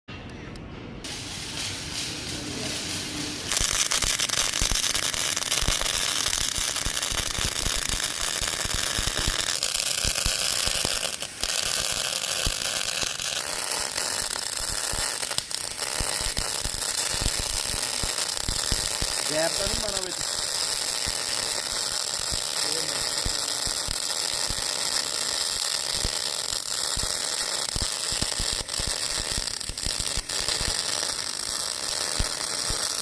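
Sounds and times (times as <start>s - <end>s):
arc welding crackling: 1.0s - 33.0s.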